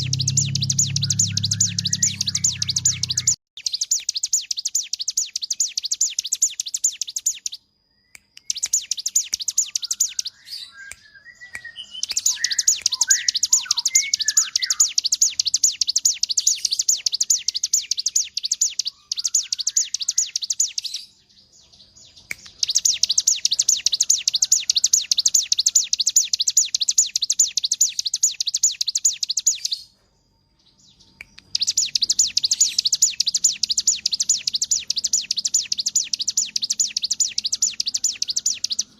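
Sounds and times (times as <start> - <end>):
bird singing rattling trills: 0.0 - 38.9
lower bird chirps: 0.0 - 38.9.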